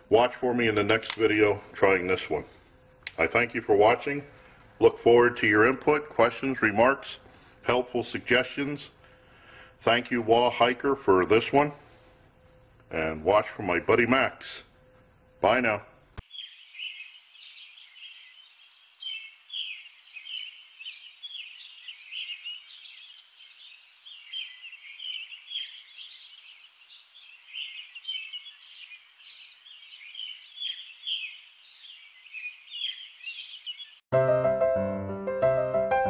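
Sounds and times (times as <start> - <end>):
birds chirping: 0.0 - 34.1.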